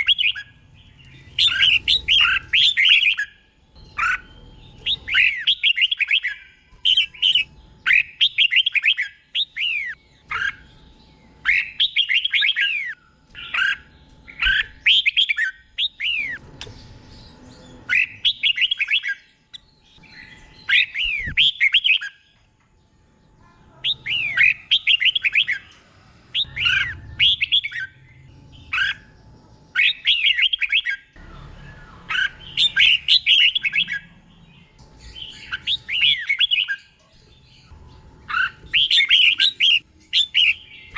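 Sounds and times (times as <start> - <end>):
bird singing whistled notes: 0.0 - 22.2, 26.4 - 34.1, 35.0 - 37.0, 38.3 - 40.9.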